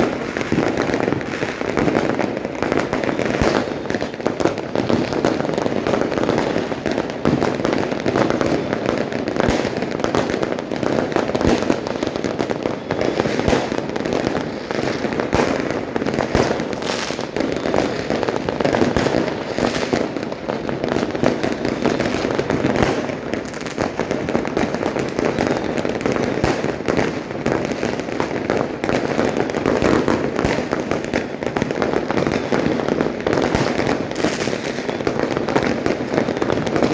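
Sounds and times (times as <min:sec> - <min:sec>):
fireworks and firecrackers exploding: 0:00.0 - 0:36.9.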